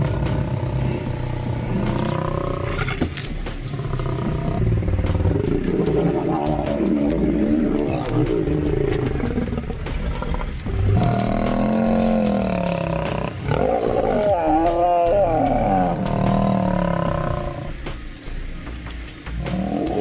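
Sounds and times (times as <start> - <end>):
lions snarling: 0.0 - 17.7.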